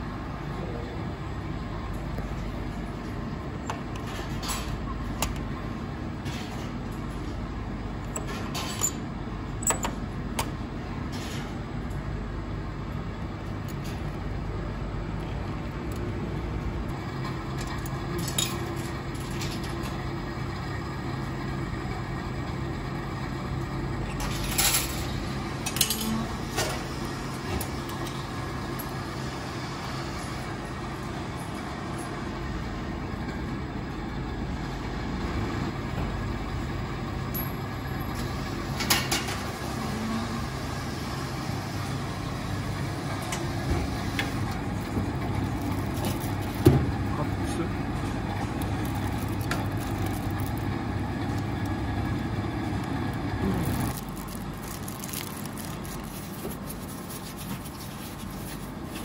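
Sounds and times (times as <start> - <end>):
traffic and machinery rumble: 0.0 - 59.0.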